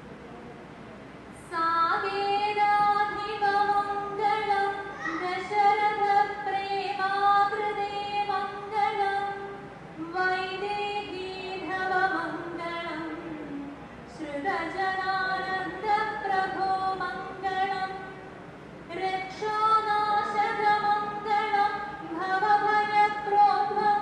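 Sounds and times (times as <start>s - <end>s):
woman chanting: 1.4s - 18.2s, 18.9s - 24.0s.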